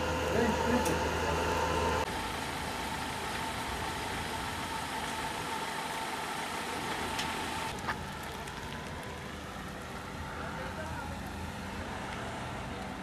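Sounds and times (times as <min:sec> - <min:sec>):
street noise: 0:00.0 - 0:13.0
vehicle engine idling: 0:00.0 - 0:13.0.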